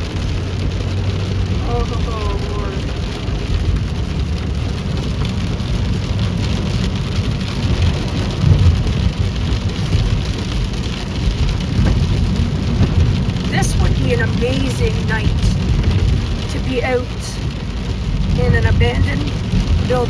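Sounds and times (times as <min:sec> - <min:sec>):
heavy rain on car: 0:00.0 - 0:20.0
wind buffeting car: 0:00.0 - 0:20.0.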